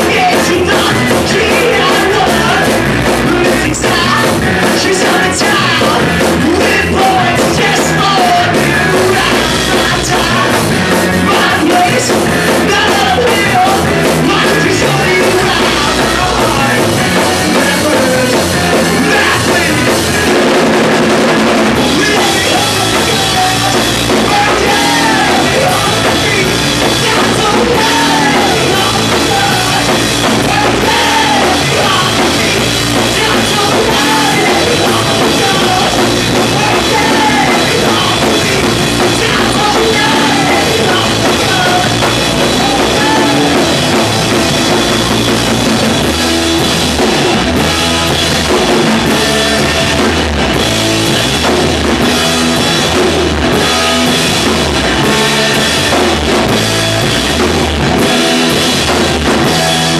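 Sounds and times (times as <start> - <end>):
bass guitar: 0.0 - 59.9
distorted electric guitar: 0.0 - 59.9
drum kit: 0.0 - 59.9.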